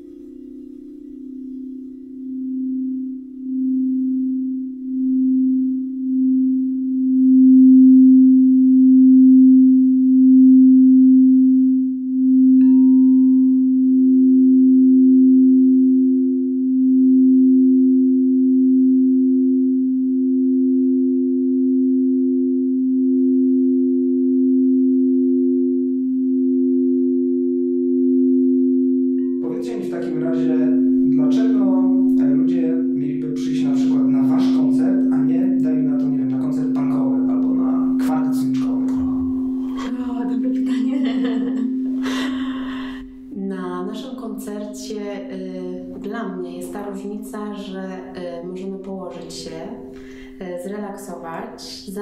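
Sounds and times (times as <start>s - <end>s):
higher singing bowl ringing: 0.0s - 11.4s, 12.0s - 43.4s
crystal singing bowl tone: 0.0s - 43.4s.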